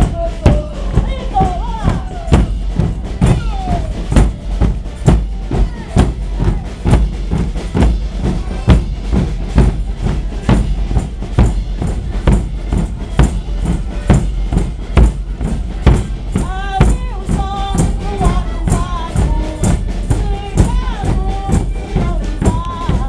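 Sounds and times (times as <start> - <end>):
bass and snare drums beating: 0.0 - 23.0.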